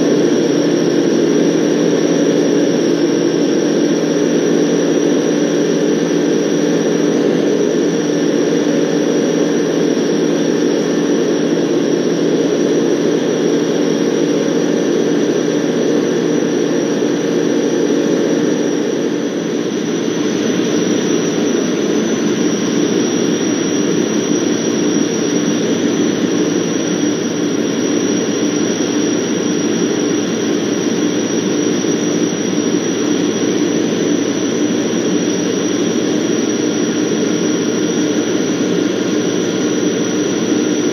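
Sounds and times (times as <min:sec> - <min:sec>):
aircraft engine and propeller in flight: 0:00.0 - 0:40.9.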